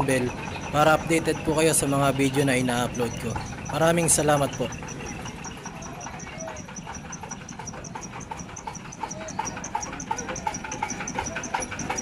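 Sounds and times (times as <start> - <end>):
small diesel engine idling: 0.0 - 12.0.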